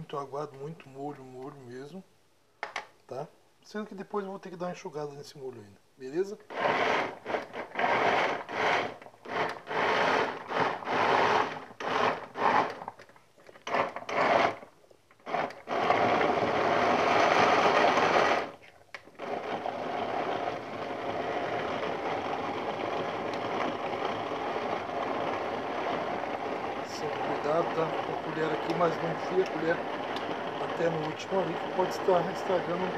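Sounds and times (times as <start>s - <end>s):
blender grinding: 6.4s - 32.9s.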